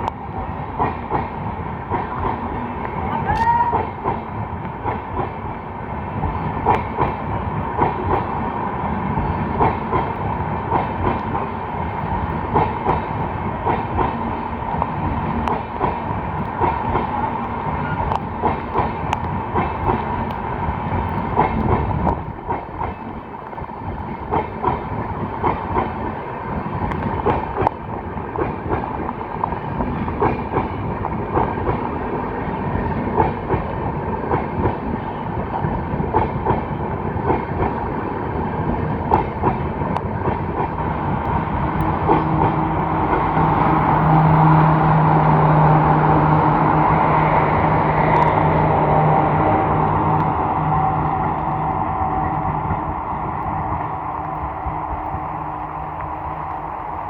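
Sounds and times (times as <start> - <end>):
constant train whine: 0.0 - 57.0
train rumbling on track: 0.0 - 57.0.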